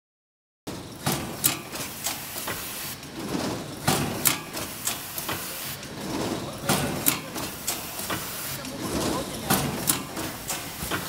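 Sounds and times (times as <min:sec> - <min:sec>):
packing machine clattering: 0:00.7 - 0:11.0
sharp machine clacks: 0:00.7 - 0:11.0.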